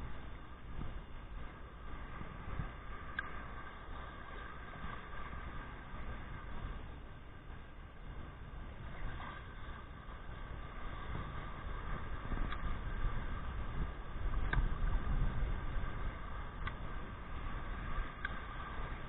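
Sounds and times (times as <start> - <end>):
small waves breaking: 0.0 - 19.0
wind noise on microphone: 0.0 - 19.0.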